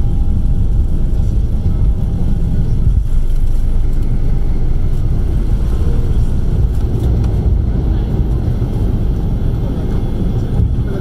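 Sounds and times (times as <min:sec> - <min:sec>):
jet airliner takeoff rumble: 0:00.0 - 0:11.0.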